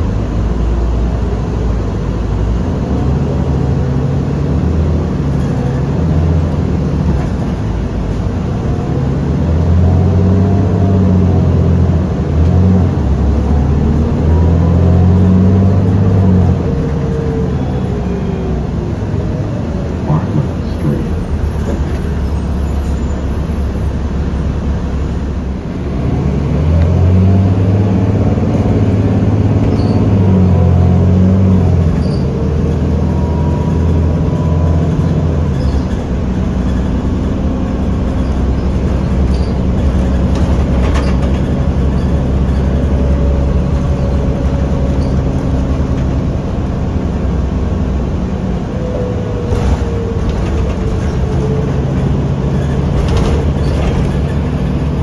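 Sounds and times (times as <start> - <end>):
bus diesel engine running: 0.0 - 55.0
faint drivetrain whine: 0.0 - 55.0.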